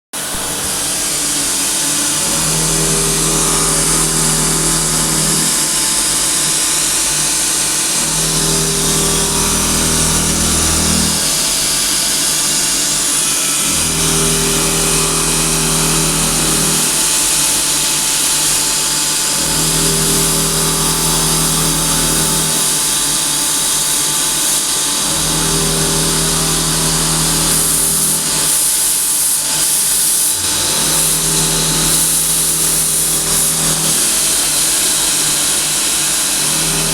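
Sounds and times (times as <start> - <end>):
milling machine hiss: 0.2 - 36.9.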